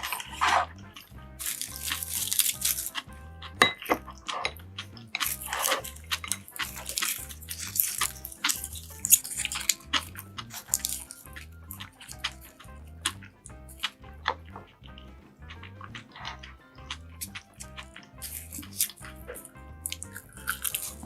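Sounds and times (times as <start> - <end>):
background music with low beat: 0.0 - 21.0.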